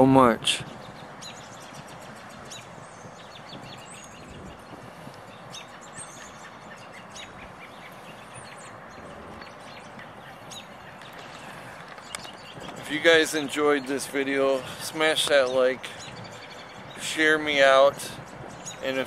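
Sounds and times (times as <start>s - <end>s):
outdoor background hiss: 0.0s - 19.0s
small birds chirping: 0.0s - 19.0s.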